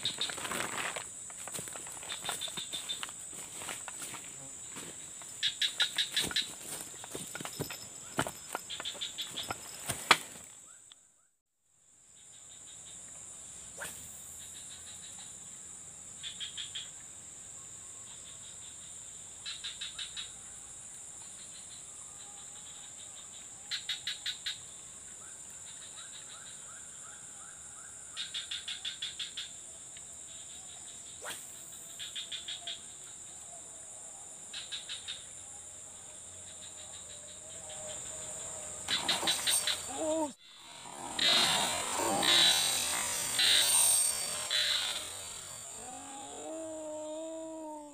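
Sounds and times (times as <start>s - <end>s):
insect chirring: 0.0s - 10.9s, 12.1s - 47.9s
rapid pulsed insect chirps: 0.0s - 47.9s.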